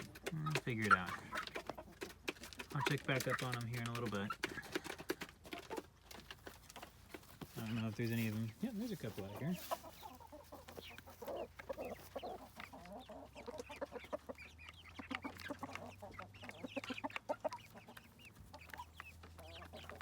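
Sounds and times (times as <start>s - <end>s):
chicks peeping: 0.0s - 20.0s
hens clucking: 0.0s - 20.0s.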